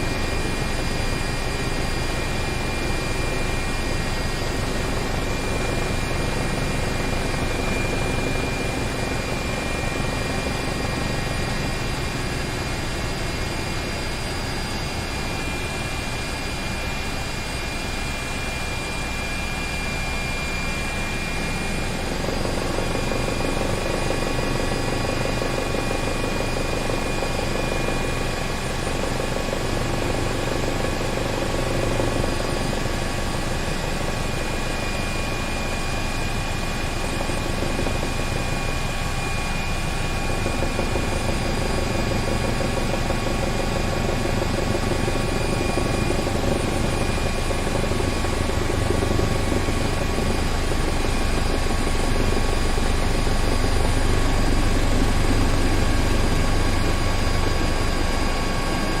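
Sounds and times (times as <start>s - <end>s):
helicopter rotor beat: 0.0s - 59.0s
high turbine whine: 0.0s - 59.0s.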